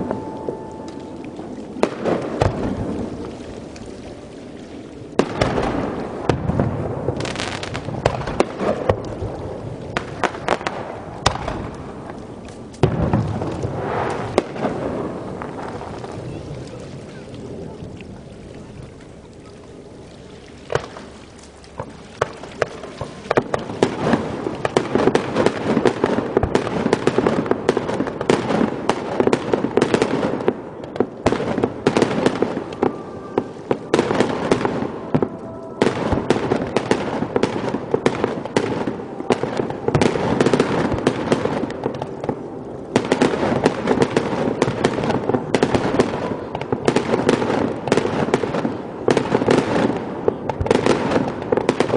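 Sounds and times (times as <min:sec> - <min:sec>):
fireworks bangs and crackle: 0:00.0 - 0:18.4, 0:20.7 - 0:51.9.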